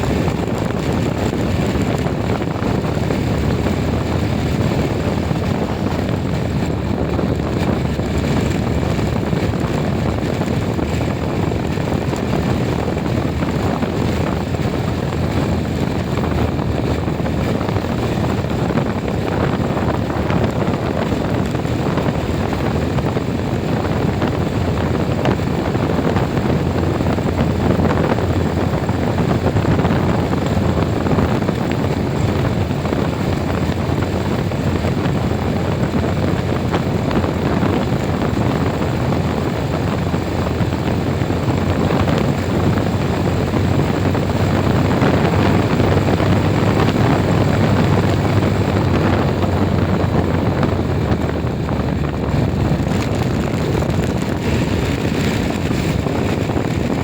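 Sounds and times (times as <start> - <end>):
road vehicle running: 0.0 - 57.0.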